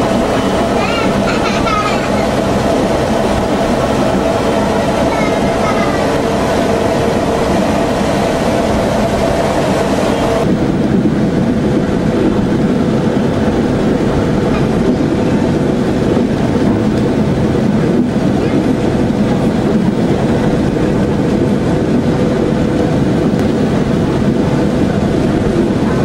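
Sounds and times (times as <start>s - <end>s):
railcar engine and running noise: 0.0s - 26.0s.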